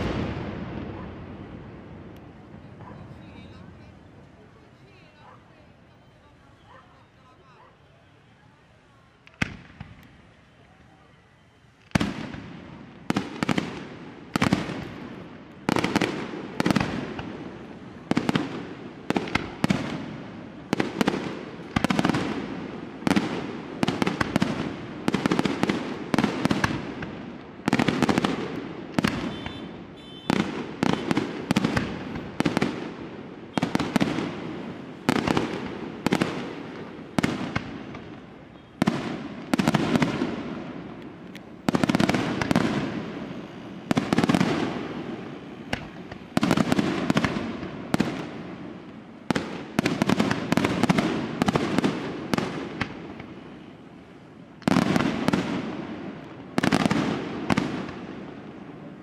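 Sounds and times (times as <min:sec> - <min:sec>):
rolling echo: 0:00.0 - 0:04.9, 0:09.2 - 0:53.6.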